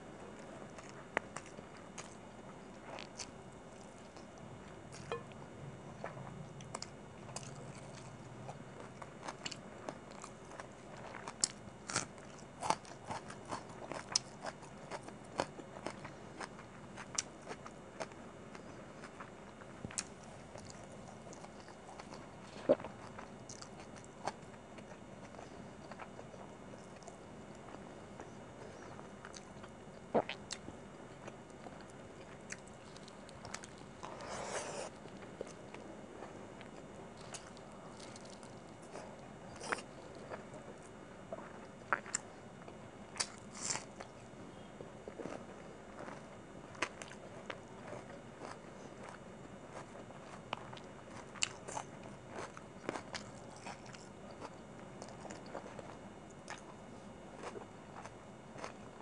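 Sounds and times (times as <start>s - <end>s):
chewing with wet clicks: 0.8s - 5.4s, 6.0s - 27.8s, 29.2s - 34.2s, 36.6s - 44.2s, 45.2s - 56.8s, 57.4s - 58.9s.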